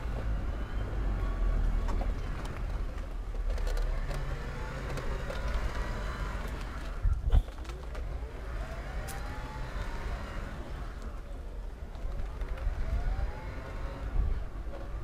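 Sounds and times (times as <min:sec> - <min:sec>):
wheelchair rolling on concrete: 0:00.0 - 0:15.0.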